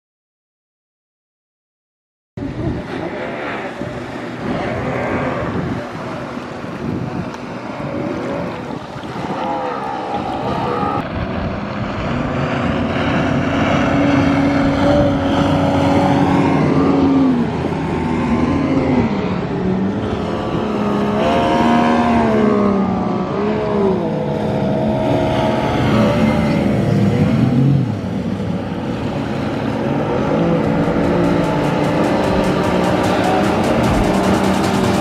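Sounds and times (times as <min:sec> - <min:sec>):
boat motor running: 0:02.4 - 0:35.0.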